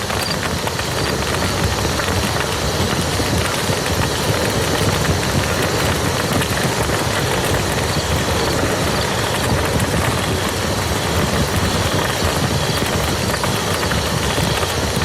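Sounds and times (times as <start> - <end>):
rain falling on mud: 0.0 - 15.0.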